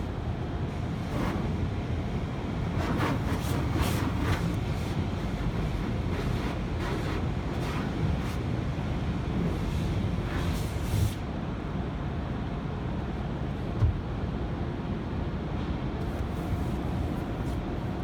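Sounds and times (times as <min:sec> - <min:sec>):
car wash low rumble: 0:00.0 - 0:18.0.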